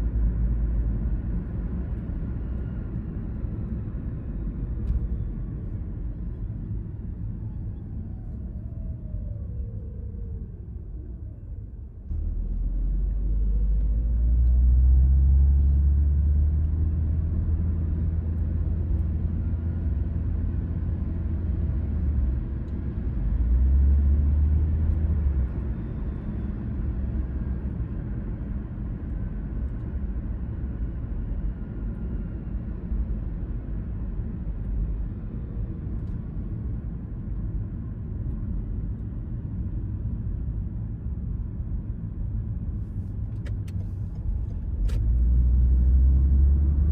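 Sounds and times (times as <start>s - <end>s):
car engine and road rumble: 0.0s - 46.9s.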